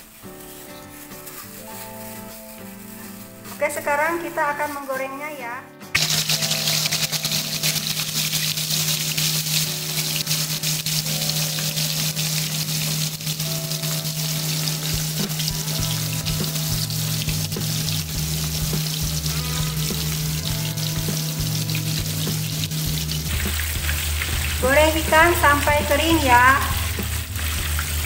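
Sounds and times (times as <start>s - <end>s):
fish sizzling in hot oil: 0.0s - 4.4s, 5.9s - 28.0s
background music with low notes: 0.0s - 28.0s.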